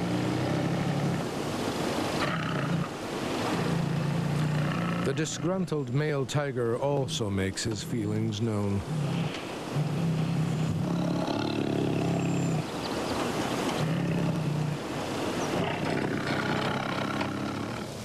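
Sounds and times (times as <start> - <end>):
tiger growling: 0.0 - 1.4, 2.1 - 18.0
tiger snarling: 0.0 - 1.4, 2.1 - 5.8, 7.7 - 12.8, 13.6 - 18.0.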